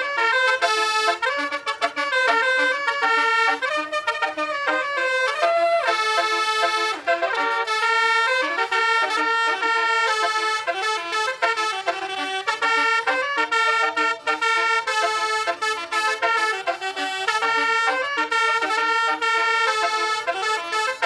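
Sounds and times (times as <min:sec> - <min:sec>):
bus horn playing a melody: 0:00.0 - 0:21.0.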